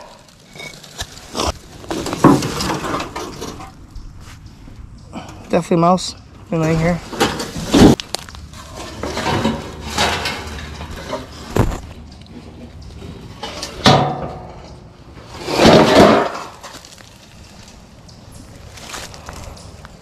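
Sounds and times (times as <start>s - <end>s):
debris clattering: 0.0s - 4.0s, 6.6s - 20.0s
scraping rustle: 0.0s - 4.6s, 6.6s - 20.0s.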